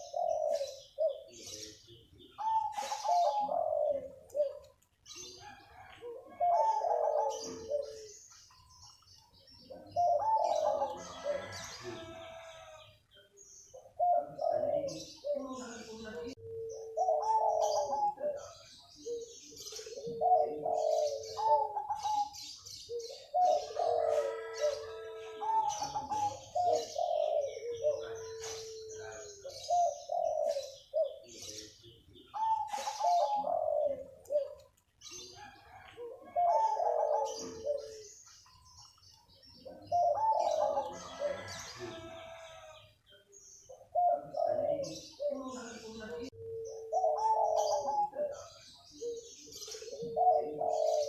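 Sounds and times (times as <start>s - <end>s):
dove cooing: 0.0s - 51.0s.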